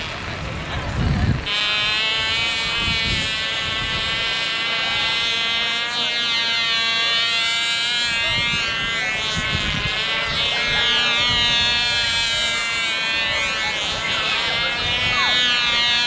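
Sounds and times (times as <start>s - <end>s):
propeller plane engine: 0.0s - 16.0s.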